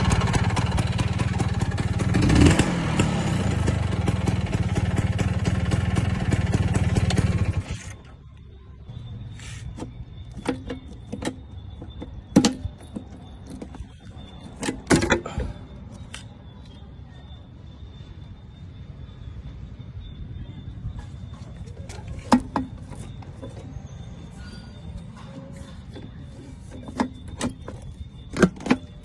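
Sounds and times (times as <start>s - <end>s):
scooter engine idling: 0.0s - 29.0s.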